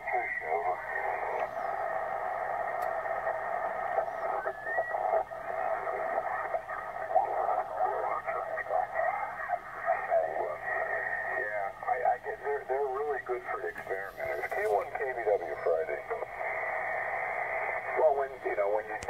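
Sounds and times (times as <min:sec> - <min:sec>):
garbled off-tune radio voices: 0:00.0 - 0:19.0
radio band noise: 0:00.0 - 0:19.0
whistling radio tone: 0:00.0 - 0:19.0.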